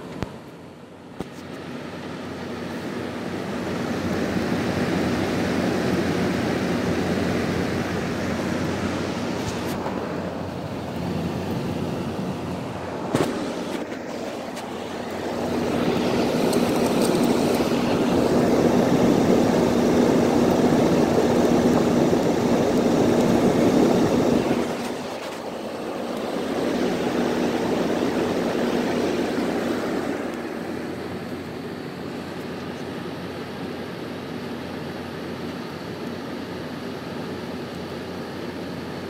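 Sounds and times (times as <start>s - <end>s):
air conditioner fan blowing: 0.0s - 39.0s
air conditioner hum: 0.0s - 39.0s.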